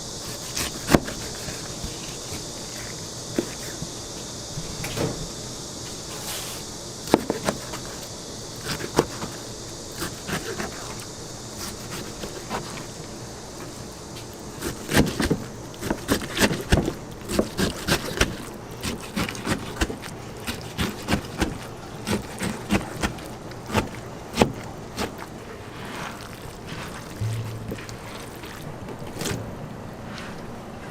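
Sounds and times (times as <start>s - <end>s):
frying hiss: 0.0s - 30.9s.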